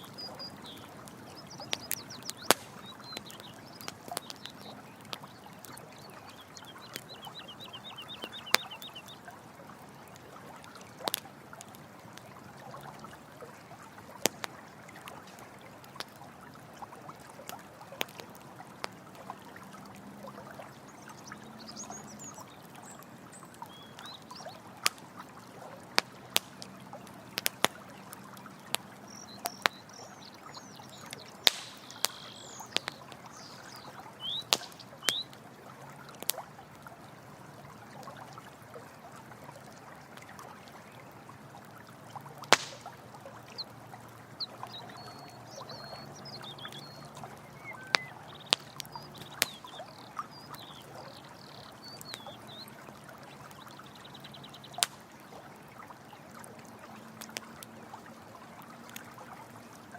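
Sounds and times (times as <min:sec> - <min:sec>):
campfire crackling: 0:00.0 - 0:59.9
running water: 0:00.0 - 0:59.9.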